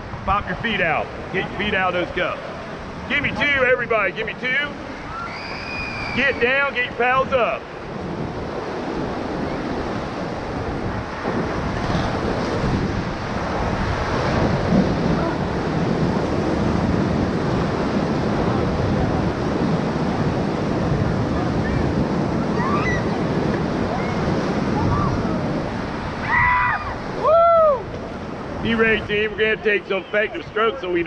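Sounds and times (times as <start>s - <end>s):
whitewater rushing and splashing: 0.0s - 31.0s.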